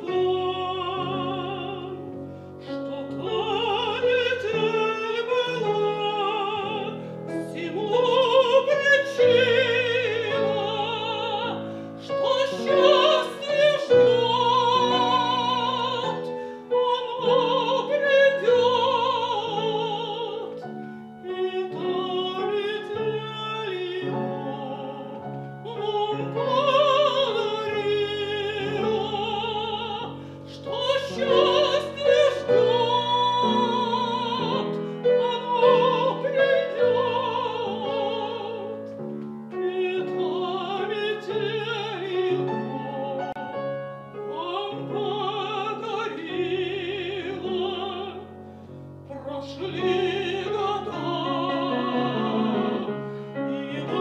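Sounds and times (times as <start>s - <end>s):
grand piano: 0.0s - 54.0s
woman singing opera: 0.0s - 54.0s.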